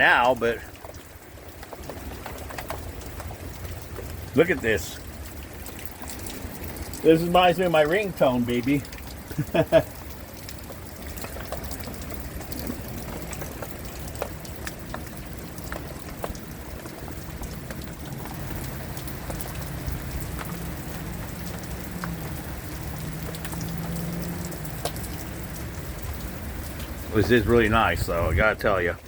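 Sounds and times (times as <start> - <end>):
heavy rain falling: 0.0 - 29.0
raindrops clicking on surface: 0.0 - 29.0.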